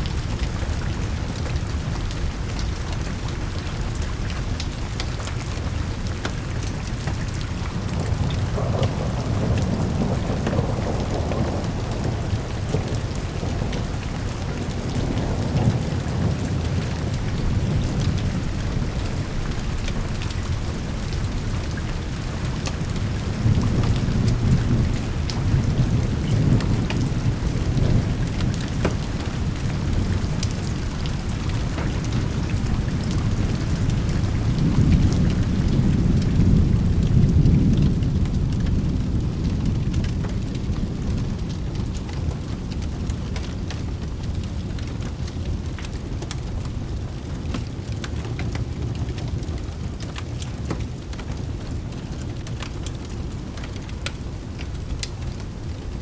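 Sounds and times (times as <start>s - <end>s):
heavy rain: 0.0s - 56.0s
low rolling thunder: 0.0s - 56.0s
raindrops ticking: 0.0s - 56.0s.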